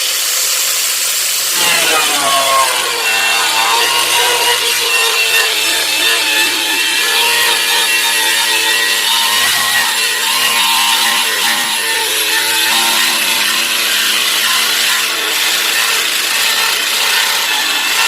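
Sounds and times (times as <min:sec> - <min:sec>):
grinder cutting through wood: 0:00.0 - 0:18.0.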